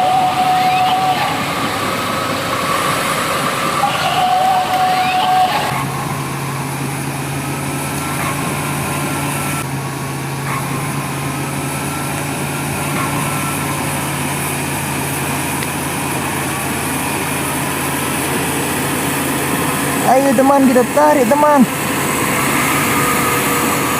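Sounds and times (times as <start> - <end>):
toy electric motors humming: 0.0 - 23.9.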